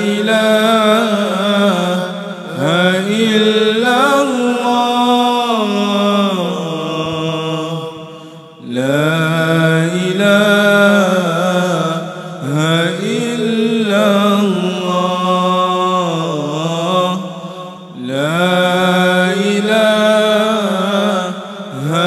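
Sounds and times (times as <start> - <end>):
person singing devotional chant: 0.0 - 22.0.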